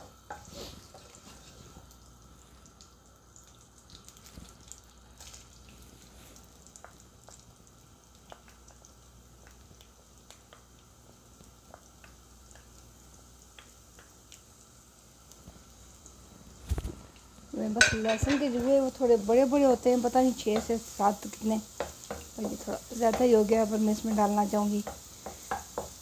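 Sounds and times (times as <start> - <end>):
garlic sizzling in oil: 0.0 - 26.0.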